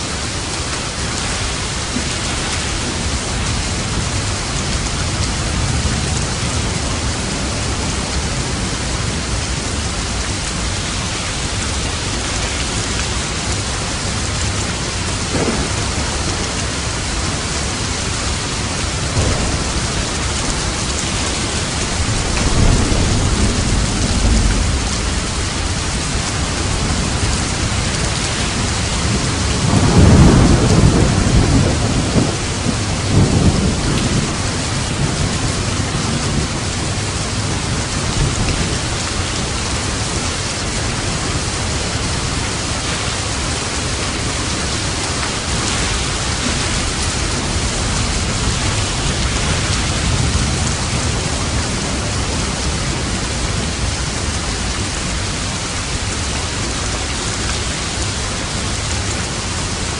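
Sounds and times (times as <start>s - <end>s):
thunder rumbling: 0.0s - 59.8s
heavy rain: 0.0s - 59.9s.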